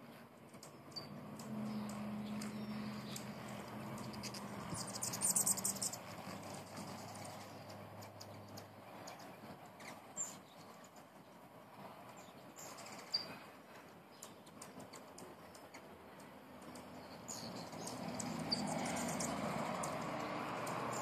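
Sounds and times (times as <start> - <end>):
hummingbirds chipping: 0.0 - 21.0.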